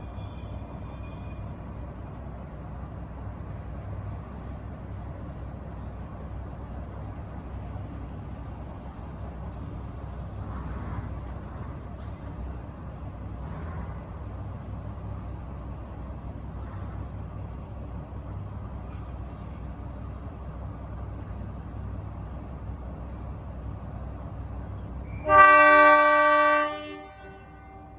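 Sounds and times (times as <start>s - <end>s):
diesel locomotive idling: 0.0s - 27.9s.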